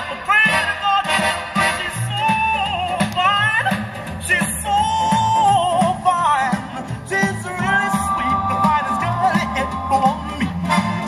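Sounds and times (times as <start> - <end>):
song with singing over a beat: 0.0 - 11.0.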